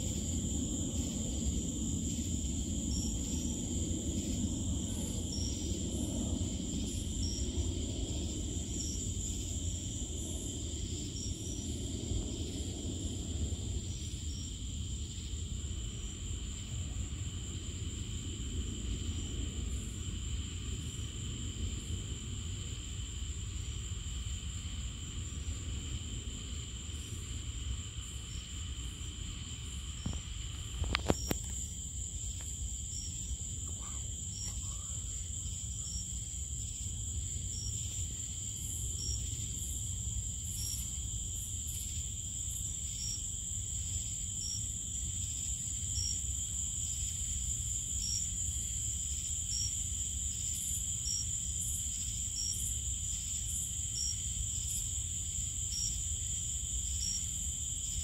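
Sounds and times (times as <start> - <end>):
insect chirping: 0.0 - 58.0
insects trilling: 0.0 - 58.0.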